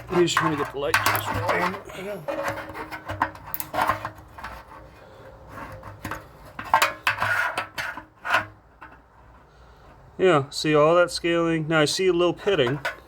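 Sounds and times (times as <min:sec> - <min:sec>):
metal tank clattering and scraping: 0:00.0 - 0:10.0, 0:12.4 - 0:13.0.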